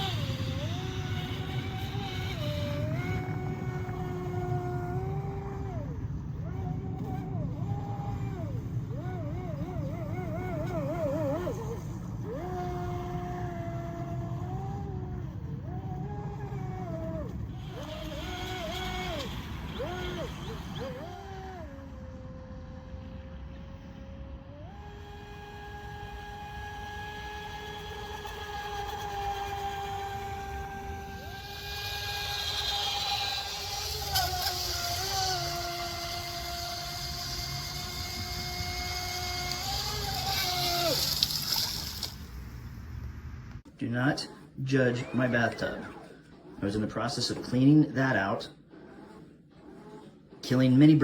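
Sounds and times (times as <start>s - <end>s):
electric motor whining: 0.0s - 51.0s
low steady rumble: 0.0s - 51.0s.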